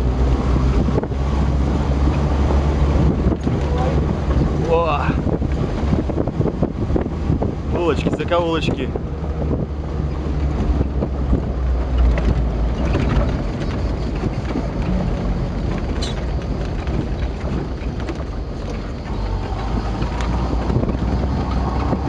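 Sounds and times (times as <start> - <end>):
knocks and rattles from bumps: 0.0 - 22.0
vehicle engine rumble: 0.0 - 22.0
wind buffeting microphone: 0.0 - 22.0.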